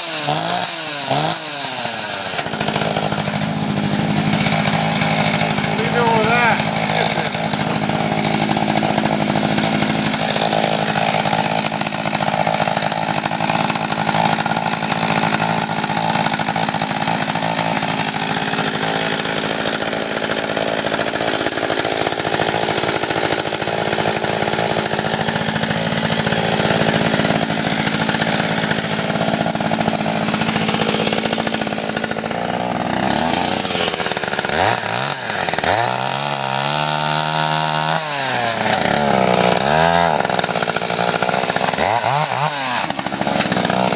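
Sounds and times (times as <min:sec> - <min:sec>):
small petrol engine running: 0:00.0 - 0:43.9.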